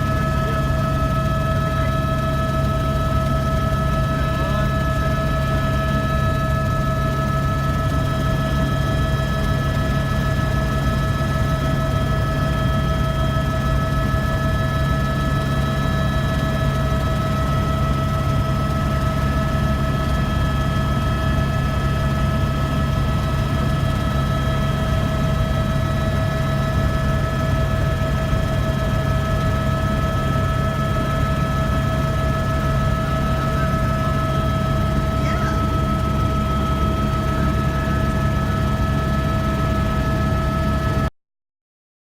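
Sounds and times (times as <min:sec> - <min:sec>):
helicopter rotor drone: 0:00.0 - 0:41.1.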